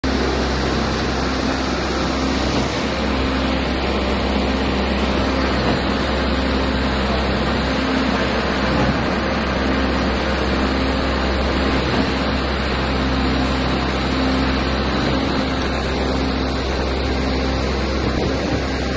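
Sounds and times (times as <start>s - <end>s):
concrete discharging into hopper: 0.0s - 18.9s
diesel engine noise: 0.0s - 18.9s.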